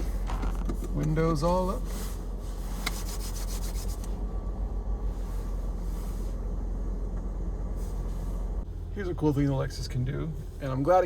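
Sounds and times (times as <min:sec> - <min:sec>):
car wash rumbling and spraying: 0:00.0 - 0:11.0.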